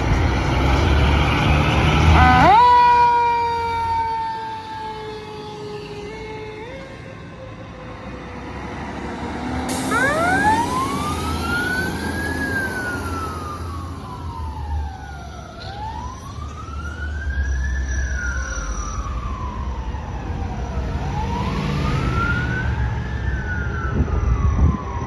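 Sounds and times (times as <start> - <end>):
truck engine rumble: 0.0 - 3.1, 7.4 - 25.0
fire truck siren wailing: 0.0 - 25.0.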